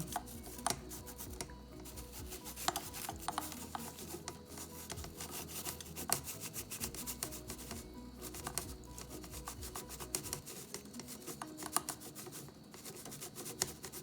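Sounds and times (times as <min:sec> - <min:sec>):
spoon scraping a container: 0:00.0 - 0:14.0.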